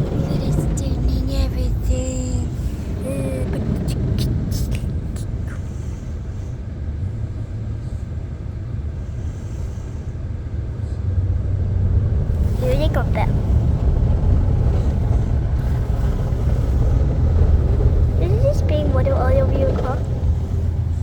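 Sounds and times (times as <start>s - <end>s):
car wash rumble: 0.0s - 21.0s.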